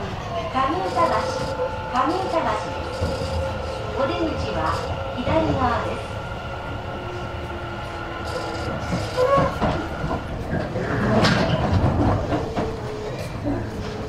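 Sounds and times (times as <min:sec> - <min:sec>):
train onboard equipment hum: 0:00.0 - 0:14.0.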